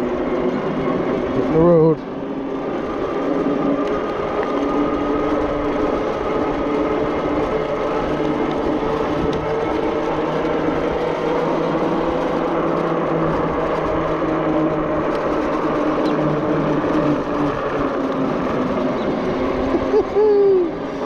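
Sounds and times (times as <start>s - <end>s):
electric motor hum: 0.0s - 21.0s
tyre and wind noise: 0.0s - 21.0s.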